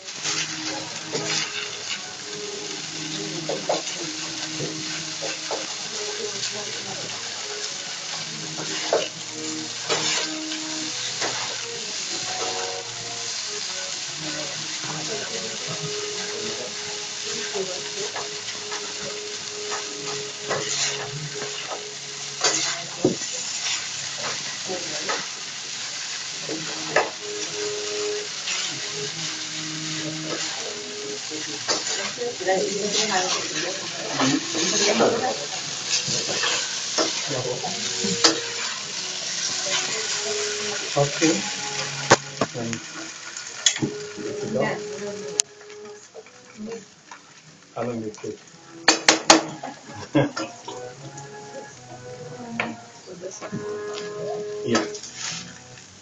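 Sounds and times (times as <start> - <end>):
vegetables sizzling in a pan: 0.0 - 56.0.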